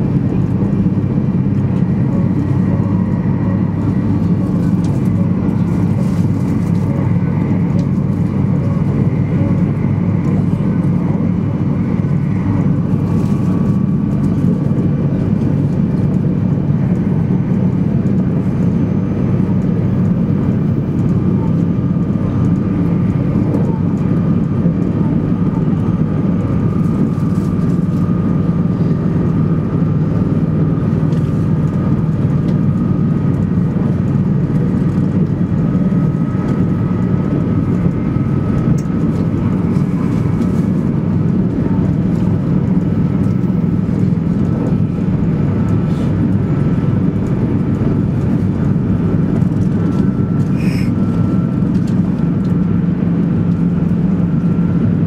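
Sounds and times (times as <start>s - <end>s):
train cabin rumble and rush: 0.0s - 55.0s.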